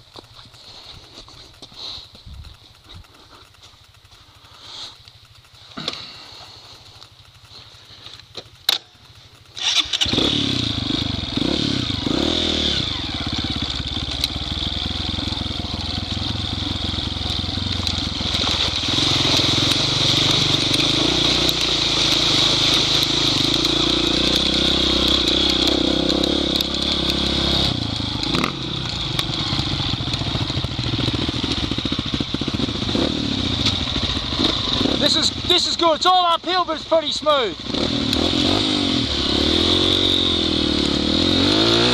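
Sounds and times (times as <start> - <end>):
dirt bike engine revving: 0.7 - 41.9.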